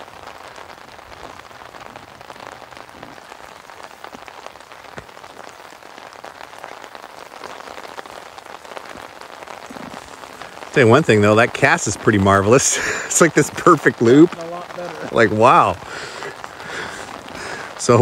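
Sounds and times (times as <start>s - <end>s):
rain falling on a lake: 0.0s - 18.0s.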